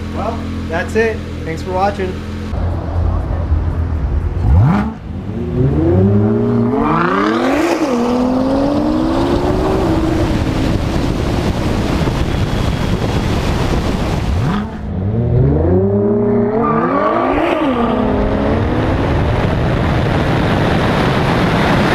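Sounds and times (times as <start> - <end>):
wind and road noise: 0.0 - 21.9
sports car accelerating hard: 2.5 - 21.9.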